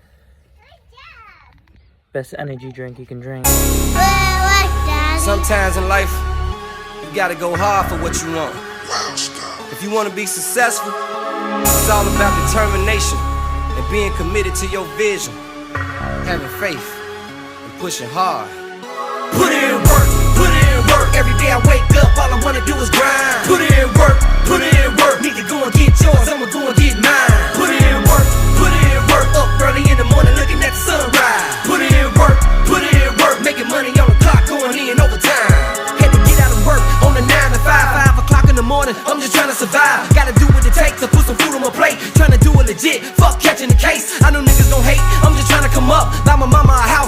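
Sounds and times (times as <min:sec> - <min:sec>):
rapping over a beat: 0:02.4 - 0:11.0, 0:11.7 - 0:15.4, 0:19.3 - 0:47.0.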